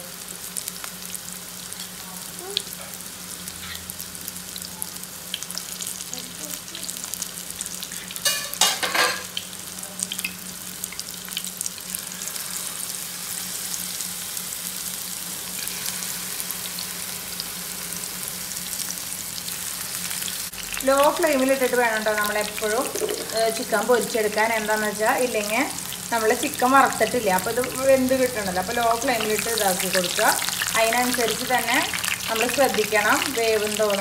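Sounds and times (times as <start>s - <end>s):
batter deep-frying in oil: 0.0s - 34.0s.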